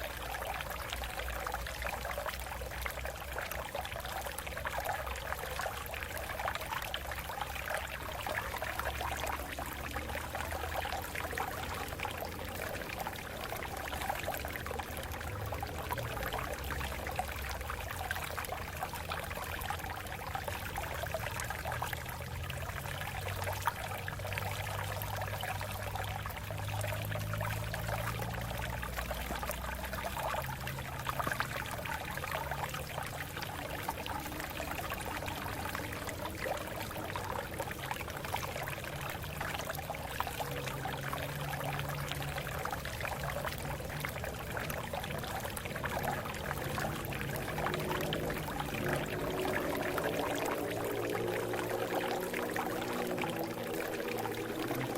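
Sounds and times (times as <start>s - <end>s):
water babbling over rocks: 0.0s - 54.9s.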